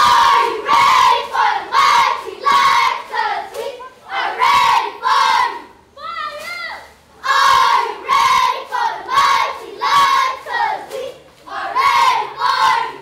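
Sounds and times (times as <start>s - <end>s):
children shouting a chant: 0.0s - 13.0s.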